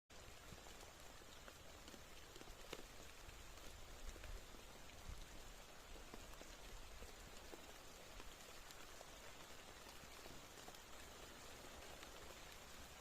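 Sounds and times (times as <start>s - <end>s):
faint steady rain: 0.1s - 13.0s
raindrops ticking: 0.1s - 13.0s.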